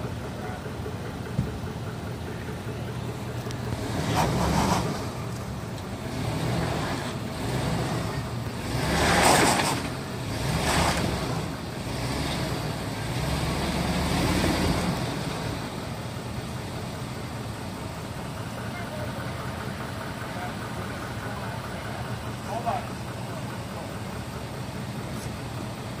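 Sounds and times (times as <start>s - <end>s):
pickup truck engine running: 0.0s - 26.0s.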